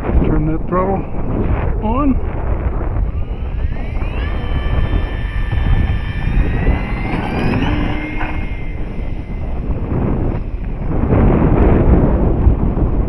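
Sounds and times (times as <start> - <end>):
wind buffeting microphone: 0.0 - 13.0
model plane motor whine: 0.1 - 13.0.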